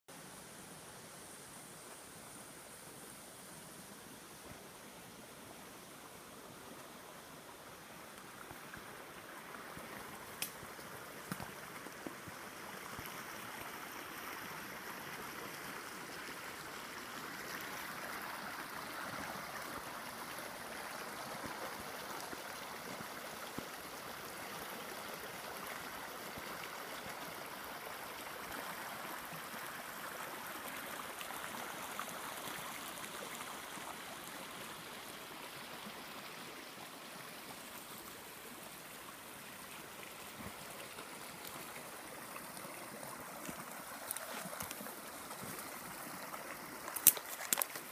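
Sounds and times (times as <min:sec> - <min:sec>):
stream running over rocks: 0:00.1 - 0:47.9.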